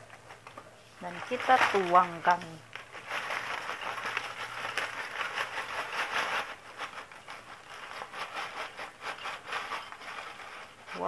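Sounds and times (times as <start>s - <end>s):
paper bag rustling and crinkling: 0.0s - 11.0s.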